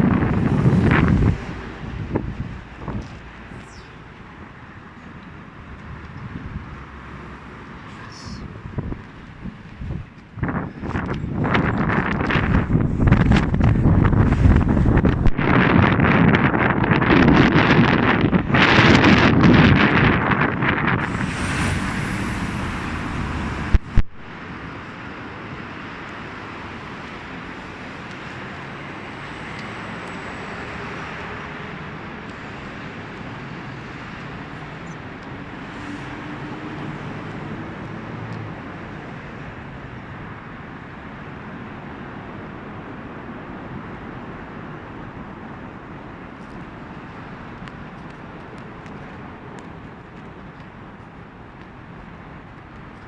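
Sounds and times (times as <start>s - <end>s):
distant vehicles: 0.0s - 53.0s.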